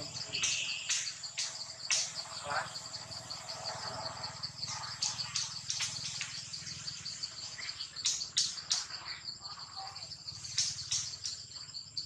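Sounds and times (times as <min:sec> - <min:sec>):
insects chirping in pulses: 0:00.0 - 0:12.0.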